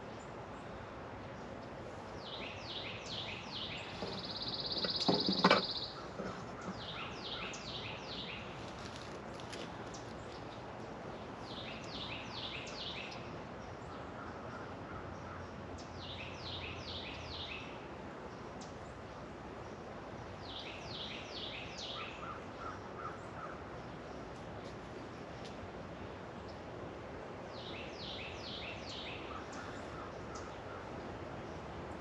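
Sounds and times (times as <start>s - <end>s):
songbird singing: 0.0s - 32.0s
steady background hiss: 0.0s - 32.0s.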